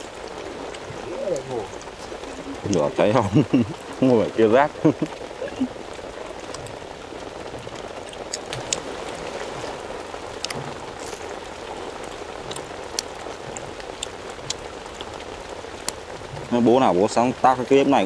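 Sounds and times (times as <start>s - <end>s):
raindrop ticks: 0.0s - 18.0s
steady rain hiss: 0.0s - 18.0s.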